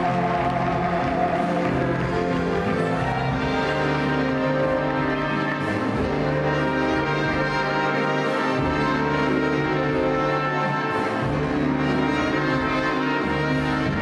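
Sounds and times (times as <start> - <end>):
orchestral music led by brass: 0.0 - 14.0.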